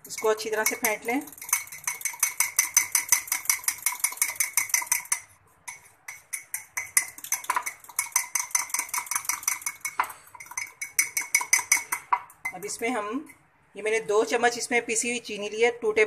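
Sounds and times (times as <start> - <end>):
spoon clinking against mug: 0.0 - 12.9.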